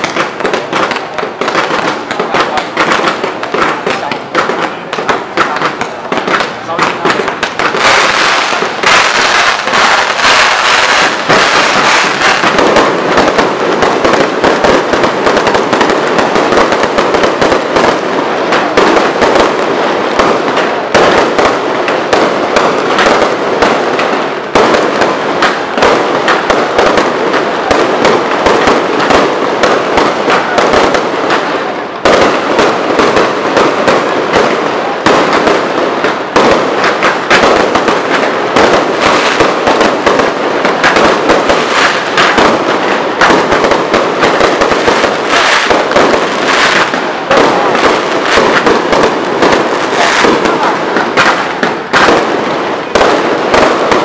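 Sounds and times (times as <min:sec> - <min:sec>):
fireworks crackling and bursting: 0:00.0 - 0:54.0.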